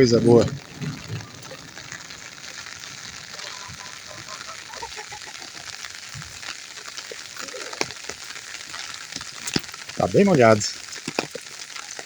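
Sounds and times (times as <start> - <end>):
faint crackling ticks: 0.0 - 12.0
fine hiss of rainwater: 0.0 - 12.0.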